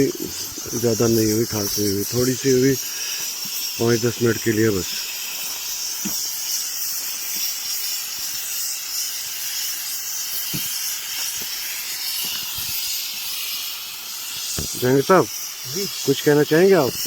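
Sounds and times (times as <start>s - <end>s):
pressure cooker steam hissing: 0.0s - 17.0s.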